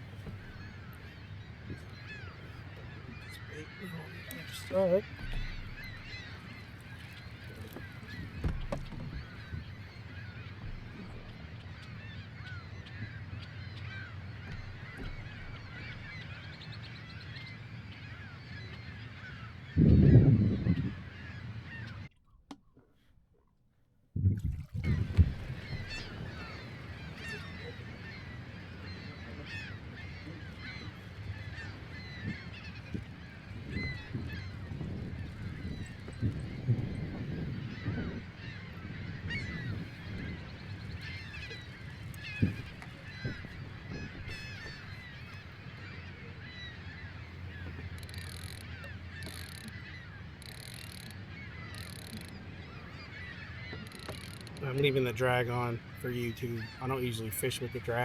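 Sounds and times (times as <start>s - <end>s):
geese honking: 0.0s - 20.2s, 24.8s - 58.0s
flock of birds calling: 0.0s - 22.1s, 24.8s - 58.0s.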